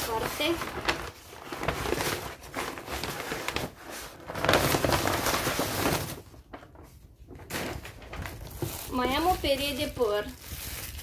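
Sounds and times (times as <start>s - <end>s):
packing paper rustling and crumpling: 0.0s - 11.0s.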